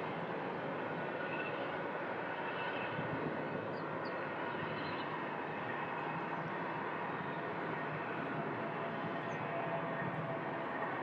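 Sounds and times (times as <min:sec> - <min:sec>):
distant jet engines roaring: 0:00.0 - 0:11.0.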